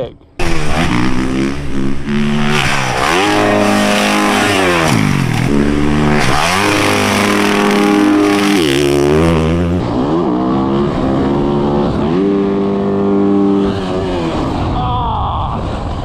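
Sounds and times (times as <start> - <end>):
dirt bike engine revving: 0.4 - 14.8.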